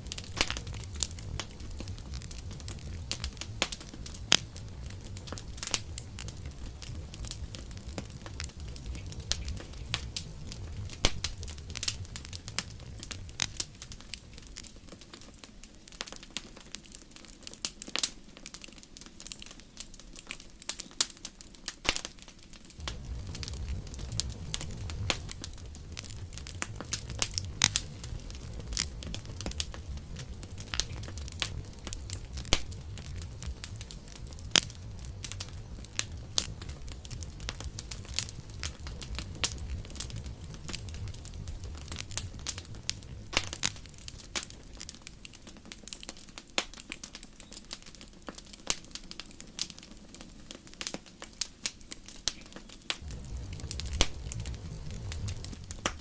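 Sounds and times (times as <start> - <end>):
low rumble of flames: 0.0 - 56.0
wood crackling and popping: 0.0 - 56.0.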